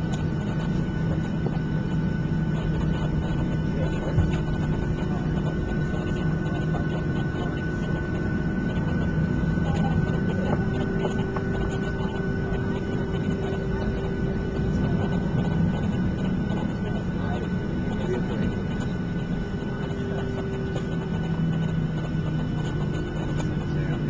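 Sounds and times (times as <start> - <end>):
jet engines idling: 0.0 - 24.0
steady hum: 0.0 - 24.0.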